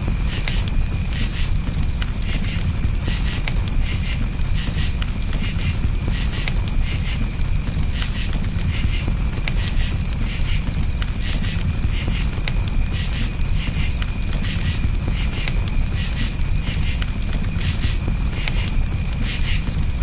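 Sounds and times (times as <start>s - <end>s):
campfire crackling and popping: 0.0s - 20.0s
crickets chirping: 0.0s - 20.0s.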